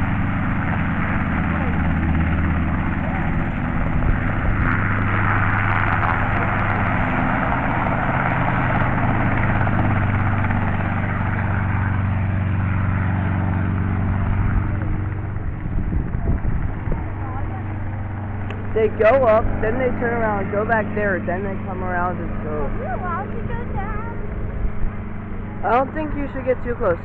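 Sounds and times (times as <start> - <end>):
helicopter rotor and engine drone: 0.0 - 27.0.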